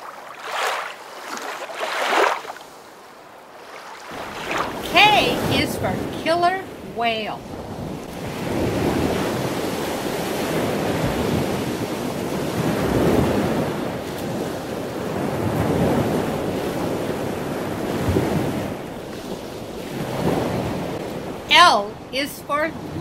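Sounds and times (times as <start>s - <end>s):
surging water: 0.0s - 23.0s.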